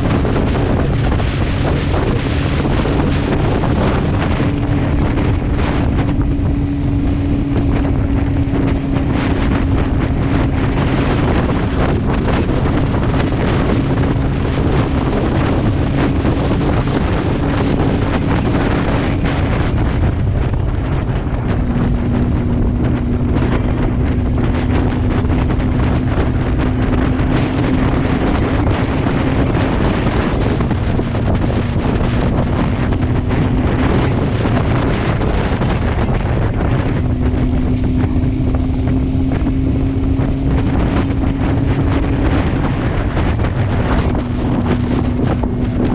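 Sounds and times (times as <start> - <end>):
motorcycle engine cruising: 0.0 - 45.9
wind rush on microphone: 0.0 - 45.9.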